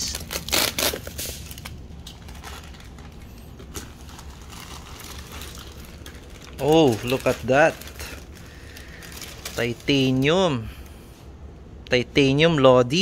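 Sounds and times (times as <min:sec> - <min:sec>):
packaging rustling and crinkling: 0:00.0 - 0:10.4
low steady hum: 0:00.0 - 0:13.0.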